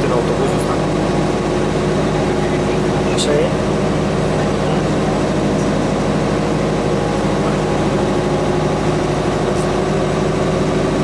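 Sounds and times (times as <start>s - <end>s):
diesel bus engine droning: 0.0s - 11.0s.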